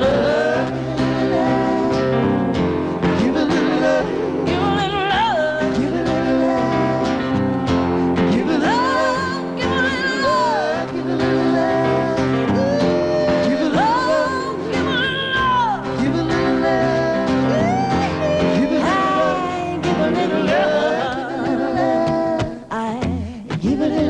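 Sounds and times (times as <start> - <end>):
backing band: 0.0 - 22.6
acoustic guitar: 0.0 - 24.0
women singing together: 0.0 - 24.0.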